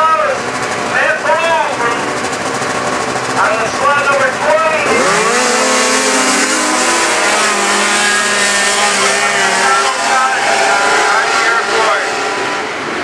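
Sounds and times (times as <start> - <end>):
snowmobile engine whining: 0.0 - 13.0.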